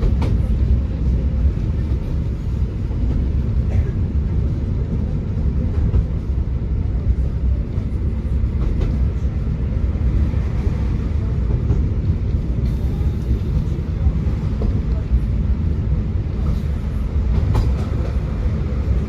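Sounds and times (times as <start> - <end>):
tram rumbling on tracks: 0.0 - 19.0.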